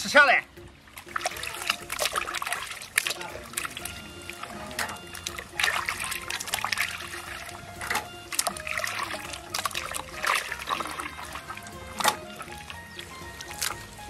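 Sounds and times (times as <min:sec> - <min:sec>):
background music: 0:00.0 - 0:14.0
wet squelches and splashes: 0:00.6 - 0:14.0.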